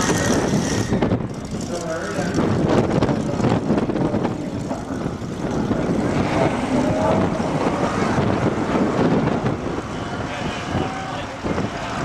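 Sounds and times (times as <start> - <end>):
racing engine running hard: 0.0 - 12.0
wind on microphone: 0.0 - 12.0.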